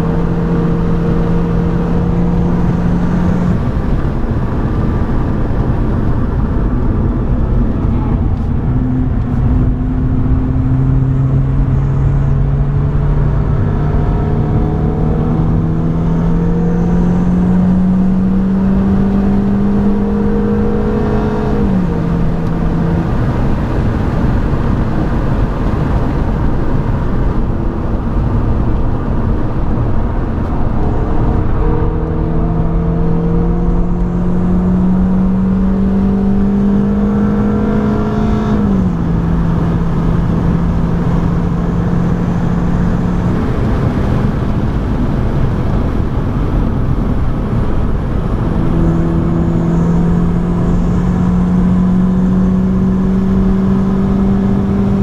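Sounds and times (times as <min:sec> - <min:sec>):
car engine from inside cabin: 0:00.0 - 0:55.0
road and wind noise: 0:00.0 - 0:55.0.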